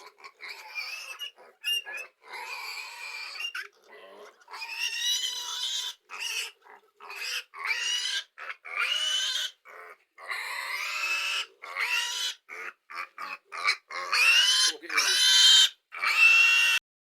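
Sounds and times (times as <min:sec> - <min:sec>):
pigs squealing: 0:00.0 - 0:16.8.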